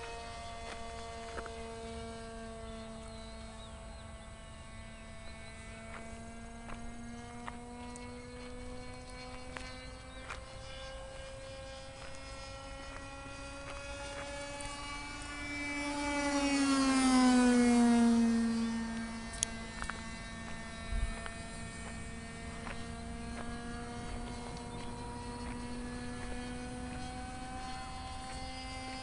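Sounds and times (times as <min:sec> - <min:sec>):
model airplane engine at high speed: 0:00.0 - 0:29.0.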